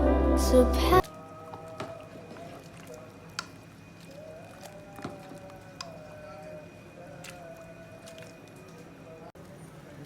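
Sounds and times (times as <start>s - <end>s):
devotional chant: 0.0s - 9.3s.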